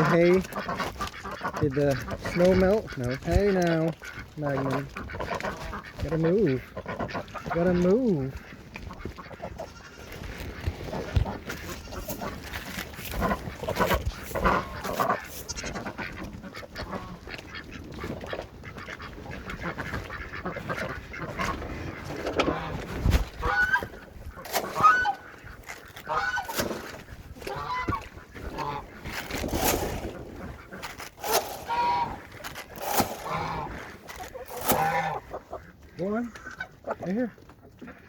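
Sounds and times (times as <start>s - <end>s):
fowl honking calls: 0.0s - 38.0s.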